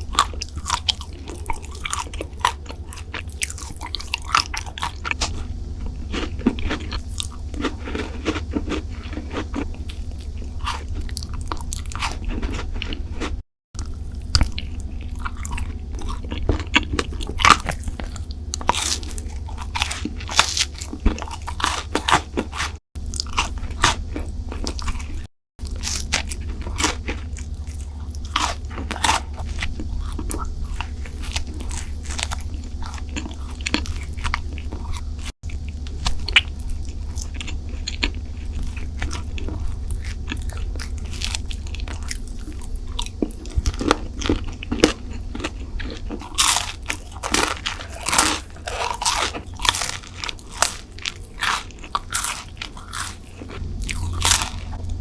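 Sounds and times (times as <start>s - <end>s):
crunching and chewing: 0.0s - 55.0s
steady low hum: 0.0s - 55.0s.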